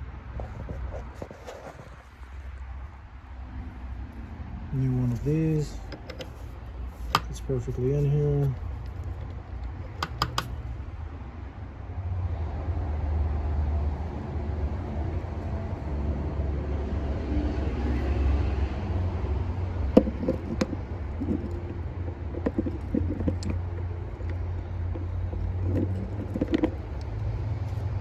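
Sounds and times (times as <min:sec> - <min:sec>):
steady low rumble: 0:02.0 - 0:28.0.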